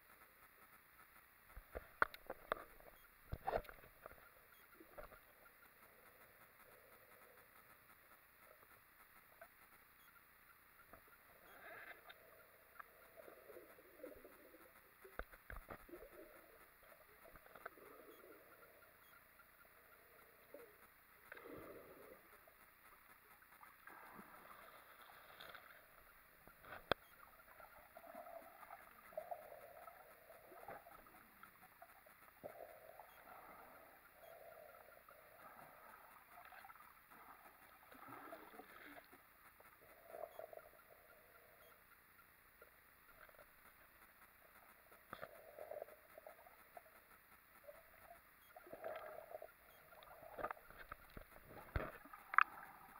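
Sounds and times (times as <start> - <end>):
water sloshing underwater: 0.0 - 52.9.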